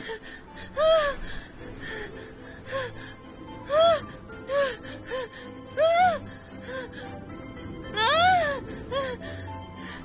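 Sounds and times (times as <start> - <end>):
dramatic background music: 0.0 - 10.0.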